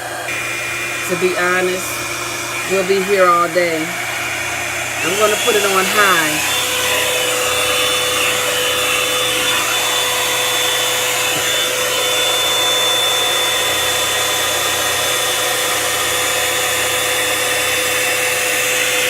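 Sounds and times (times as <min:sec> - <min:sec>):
hair dryer brush running: 0:00.0 - 0:19.0.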